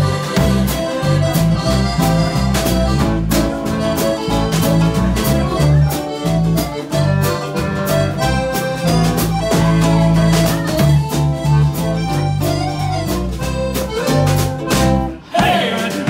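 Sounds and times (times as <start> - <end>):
accordion melody: 0.0 - 16.0
electric bass: 0.0 - 16.0
strummed acoustic guitar: 0.0 - 16.0
ukulele: 0.0 - 16.0.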